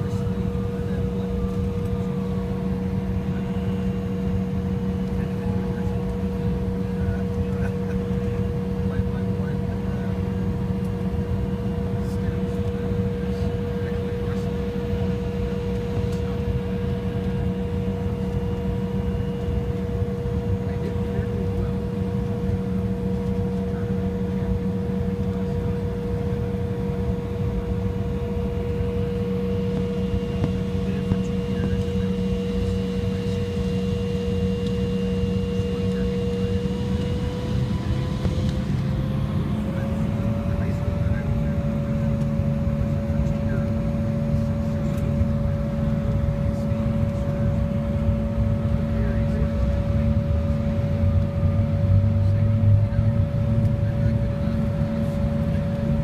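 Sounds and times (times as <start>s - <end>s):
constant hum: 0.0s - 56.0s
jet airliner cabin rumble: 0.0s - 56.0s.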